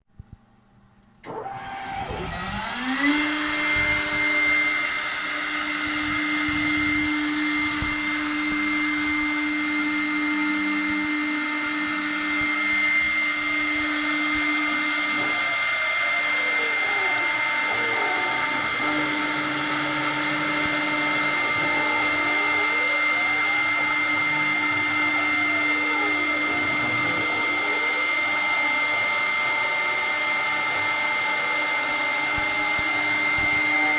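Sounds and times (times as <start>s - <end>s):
router spindle whining: 1.2s - 33.9s.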